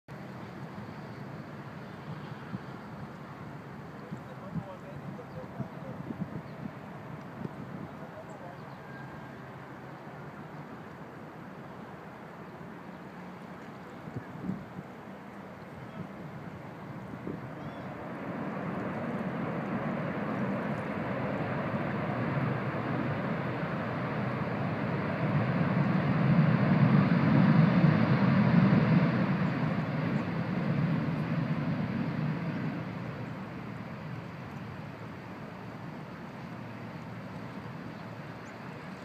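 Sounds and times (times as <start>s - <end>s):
jet engine roar: 0.2s - 39.0s.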